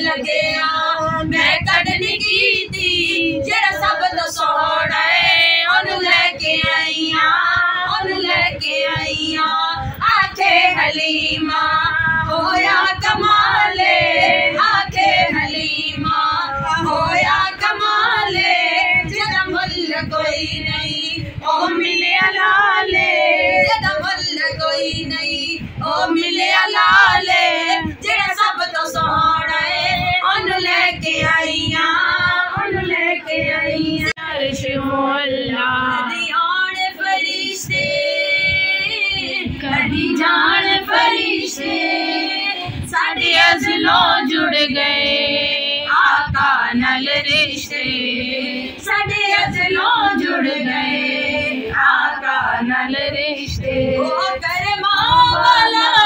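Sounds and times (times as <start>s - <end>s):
women singing together: 0.0s - 56.0s.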